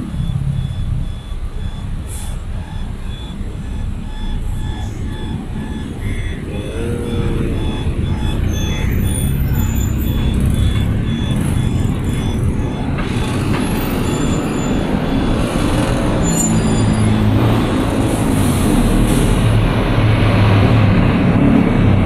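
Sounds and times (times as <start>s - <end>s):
car and bus engines rumbling: 0.0s - 22.0s.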